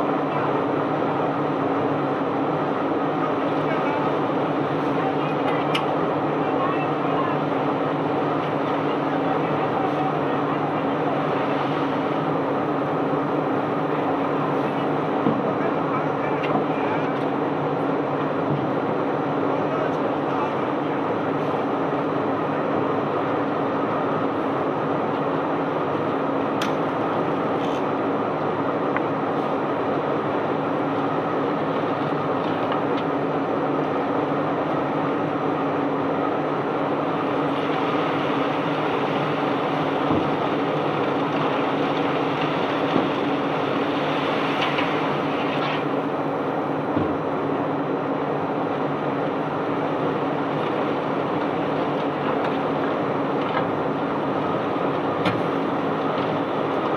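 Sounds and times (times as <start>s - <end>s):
machinery humming: 0.0s - 56.9s.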